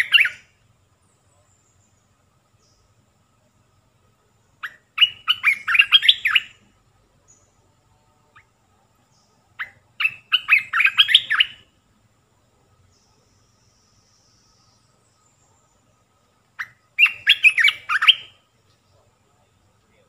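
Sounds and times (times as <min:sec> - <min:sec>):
bird singing whistled notes: 0:00.0 - 0:03.0, 0:04.4 - 0:07.7, 0:08.3 - 0:11.8, 0:12.8 - 0:19.1.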